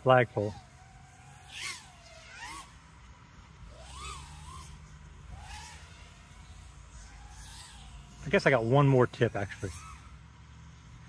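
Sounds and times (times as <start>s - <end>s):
low steady rumble: 0.0s - 11.0s
quadcopter motors whining: 0.0s - 11.0s.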